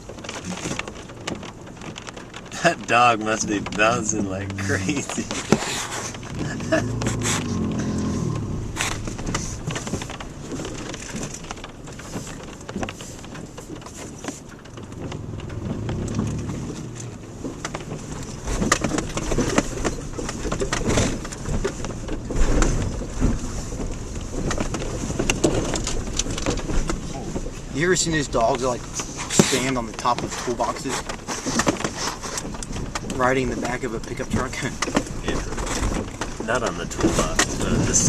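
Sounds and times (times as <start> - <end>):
car engine running: 0.0 - 38.0
car knocking and rattling: 0.0 - 38.0
tyre rumble on gravel: 0.0 - 38.0.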